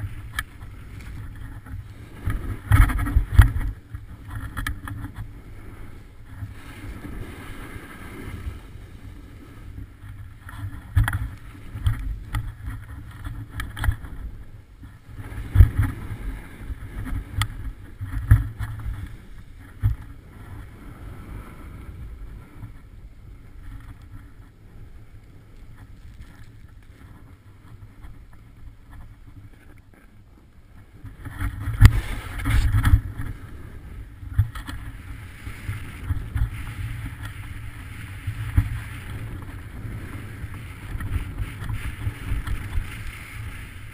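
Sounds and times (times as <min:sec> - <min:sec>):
wind buffeting microphone: 0:00.0 - 0:29.7, 0:30.6 - 0:43.9
skis scraping over snow: 0:00.0 - 0:43.9.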